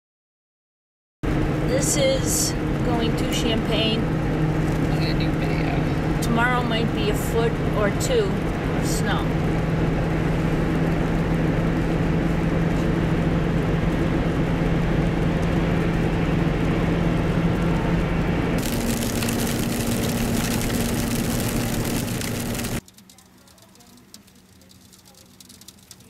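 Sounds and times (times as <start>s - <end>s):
car engine drone: 1.2s - 26.0s
road and tyre noise: 1.2s - 26.0s.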